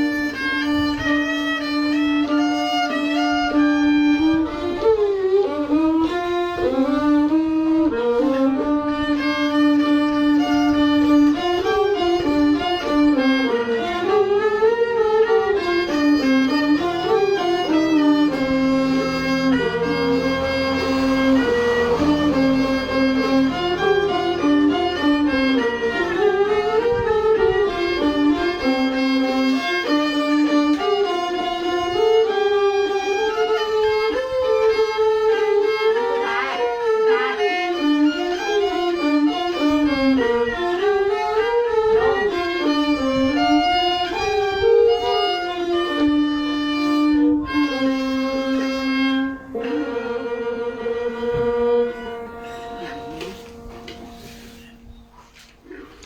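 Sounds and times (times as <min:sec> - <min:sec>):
bowed fiddle melody: 0:00.0 - 0:56.0.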